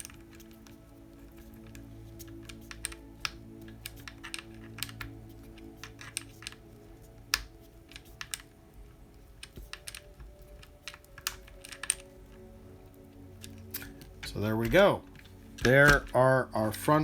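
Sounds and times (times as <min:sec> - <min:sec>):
plastic and metal parts clicking: 0:00.0 - 0:17.0.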